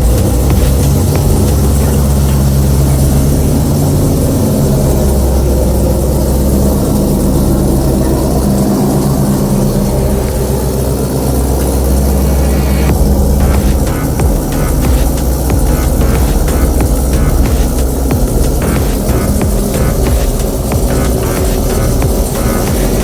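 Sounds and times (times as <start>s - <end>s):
deep car engine idling: 0.0s - 23.0s.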